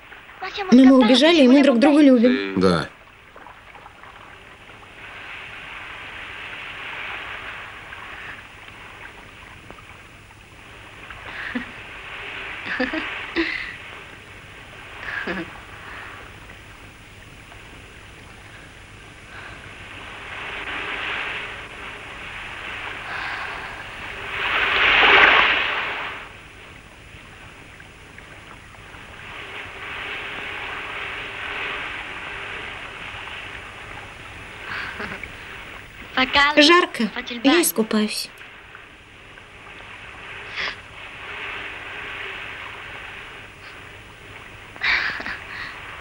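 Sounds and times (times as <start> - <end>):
waves breaking on a beach: 0.0 - 46.0.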